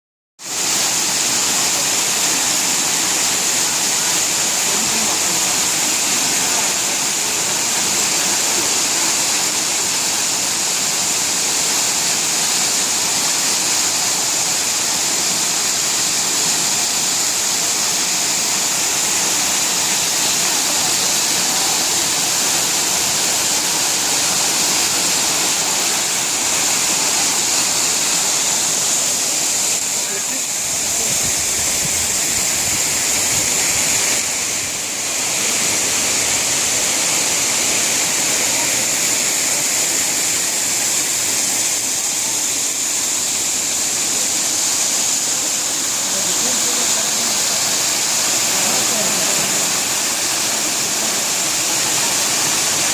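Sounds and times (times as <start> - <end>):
waterfall pouring: 0.4 - 52.9.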